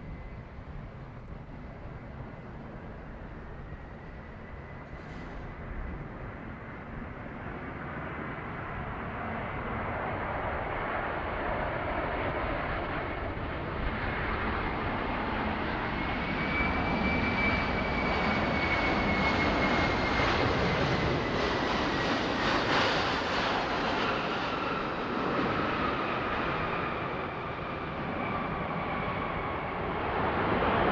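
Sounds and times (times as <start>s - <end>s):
jet aircraft engines: 0.0s - 30.9s.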